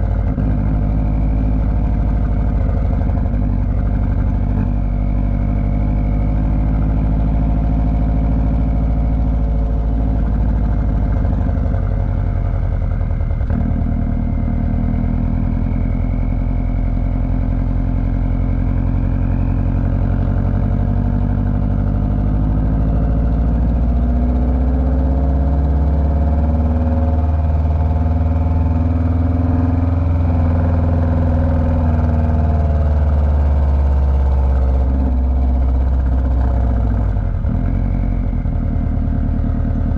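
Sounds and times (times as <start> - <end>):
car engine cruising: 0.0 - 39.9
road noise: 0.0 - 39.9.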